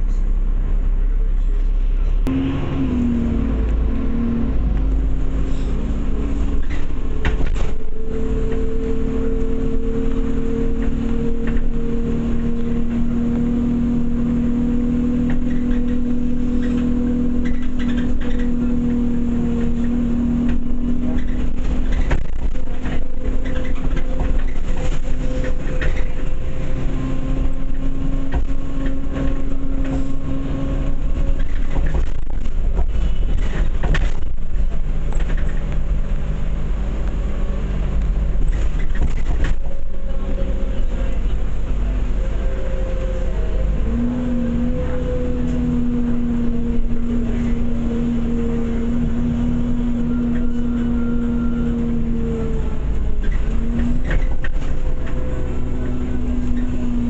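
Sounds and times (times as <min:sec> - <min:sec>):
bus engine rumble and hum: 0:00.0 - 0:57.0.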